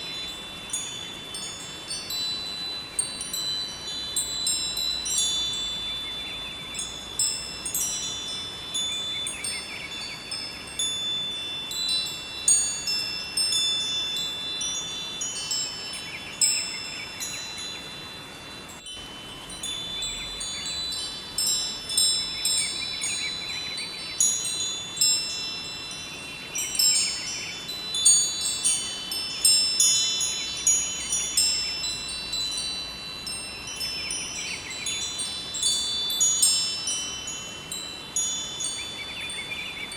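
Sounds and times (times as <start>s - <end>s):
flowing river water: 0.0s - 39.9s
wind chimes ringing: 0.0s - 39.9s.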